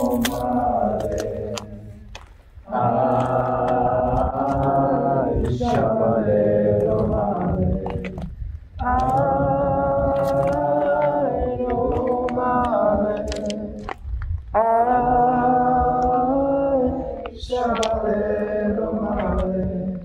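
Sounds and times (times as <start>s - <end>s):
voices singing unaccompanied: 0.0s - 20.0s.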